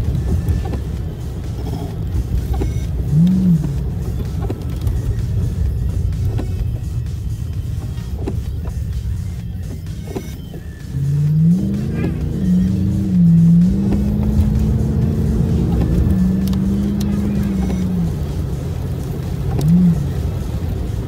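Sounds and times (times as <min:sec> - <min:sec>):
car engine hum: 0:00.0 - 0:21.0
road rumble inside car: 0:00.0 - 0:21.0.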